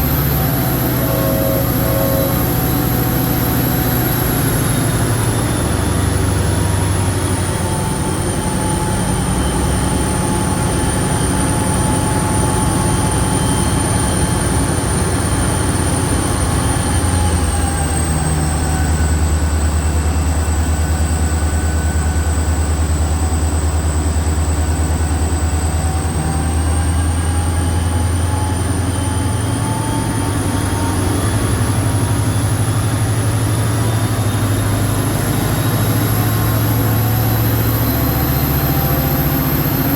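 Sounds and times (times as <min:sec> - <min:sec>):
diesel locomotive engine droning: 0:00.0 - 0:39.9
high whine: 0:00.0 - 0:39.9.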